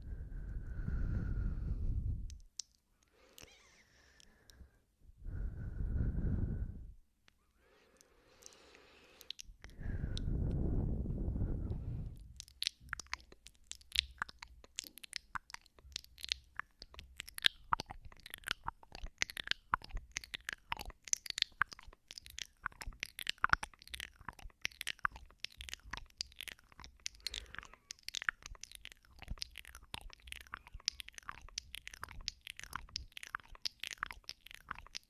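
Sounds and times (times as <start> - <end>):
wet mouth clicks and smacks: 2.1 - 4.6, 8.0 - 10.6, 11.7 - 35.0.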